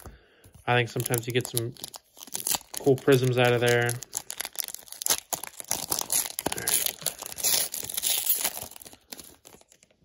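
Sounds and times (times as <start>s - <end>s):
foil wrapper crinkling and tearing: 0.6s - 10.0s.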